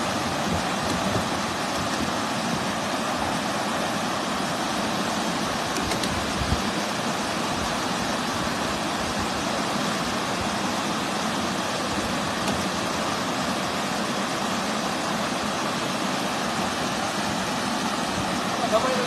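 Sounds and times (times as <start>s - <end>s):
water rushing down spillway: 0.0s - 19.0s.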